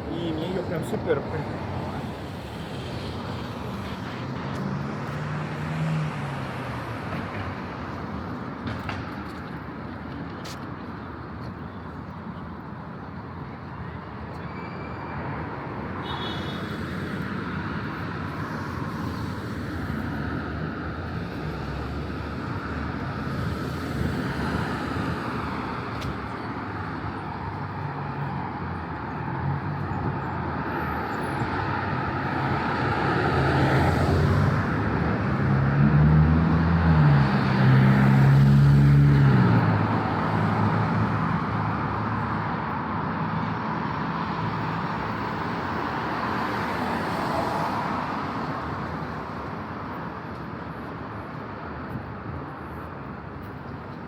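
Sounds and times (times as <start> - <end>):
street traffic roar: 0.0 - 54.0.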